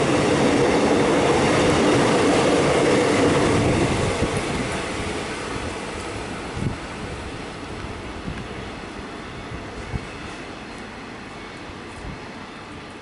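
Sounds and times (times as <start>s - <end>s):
electric train passing at speed: 0.0s - 13.0s.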